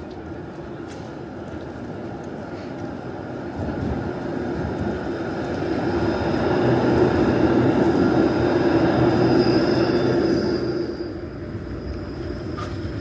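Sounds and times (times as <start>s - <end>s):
tram running on rails: 0.0s - 13.0s.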